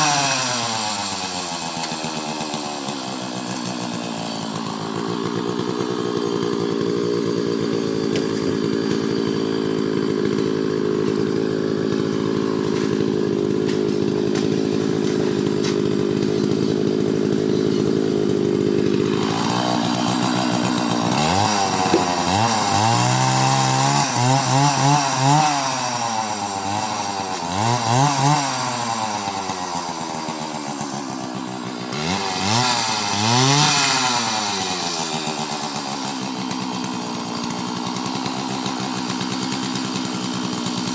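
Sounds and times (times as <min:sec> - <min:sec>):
chainsaw running and revving: 0:00.0 - 0:40.9.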